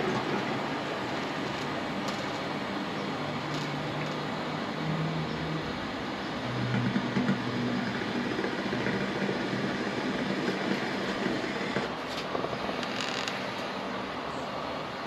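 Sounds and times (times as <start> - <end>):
water rushing through pipe: 0.0 - 13.7.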